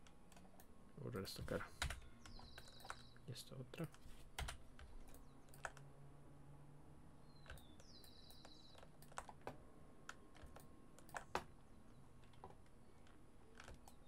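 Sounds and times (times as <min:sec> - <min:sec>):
keyboard and mouse clicks: 0:00.0 - 0:03.2, 0:03.8 - 0:05.9, 0:07.4 - 0:11.5, 0:12.2 - 0:14.0.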